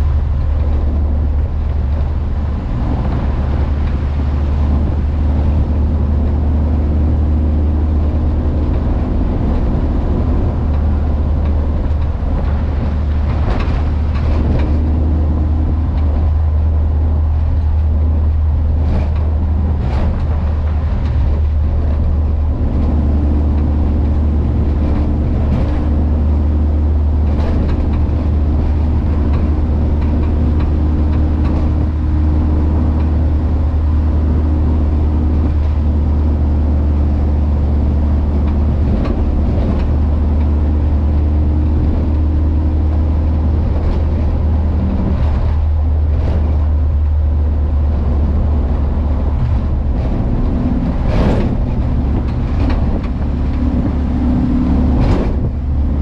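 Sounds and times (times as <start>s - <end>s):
road noise: 0.0s - 56.0s
van engine droning: 0.0s - 56.0s.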